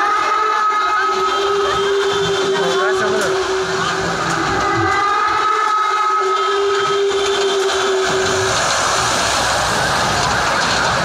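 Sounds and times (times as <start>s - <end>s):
ride cars passing noise: 0.0s - 11.0s.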